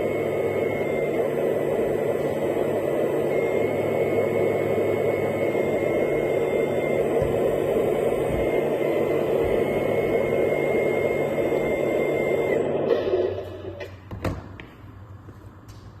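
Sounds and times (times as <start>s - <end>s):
model bulldozer motor humming: 0.0s - 13.8s.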